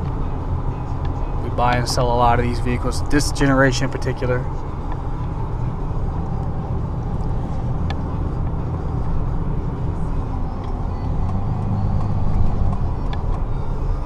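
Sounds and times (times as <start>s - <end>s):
car engine running: 0.0s - 14.0s
tyre and road noise: 0.0s - 14.0s.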